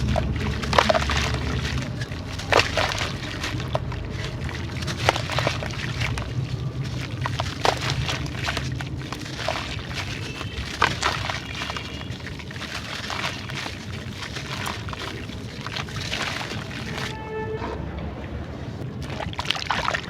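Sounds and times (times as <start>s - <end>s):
crumbling dry clay crackles: 0.0s - 17.2s
low steady hum: 0.0s - 20.0s.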